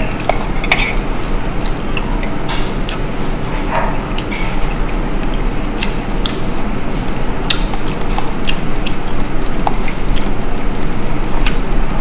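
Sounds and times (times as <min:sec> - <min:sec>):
eating clicks and smacks: 0:00.0 - 0:03.1, 0:03.8 - 0:11.8
background hum and hiss: 0:00.0 - 0:12.0.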